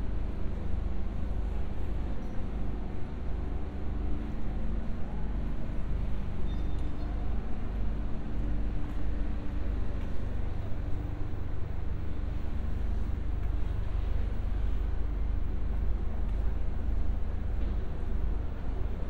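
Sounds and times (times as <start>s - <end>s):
low rumble of city traffic: 0.0s - 19.0s.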